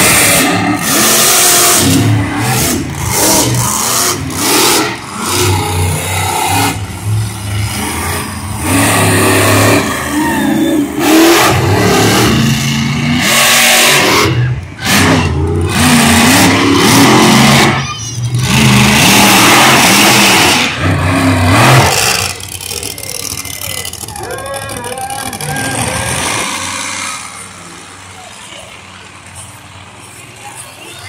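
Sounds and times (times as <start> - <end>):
monster truck engines revving: 0.0 - 31.0.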